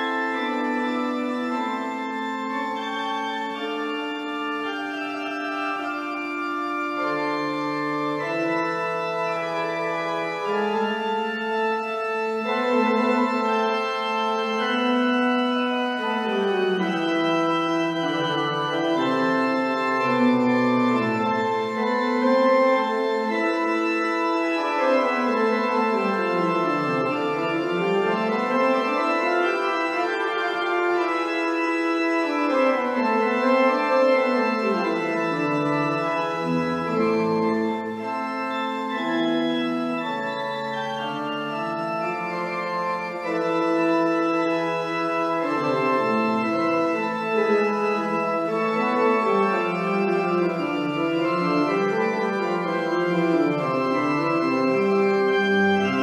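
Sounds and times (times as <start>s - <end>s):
pipe organ playing: 0.0s - 56.0s.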